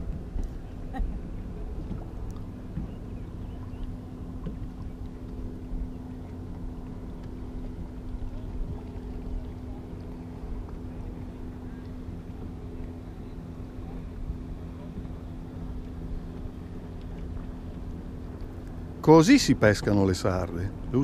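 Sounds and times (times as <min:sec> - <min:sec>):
motorboat engine humming: 0:00.0 - 0:21.0.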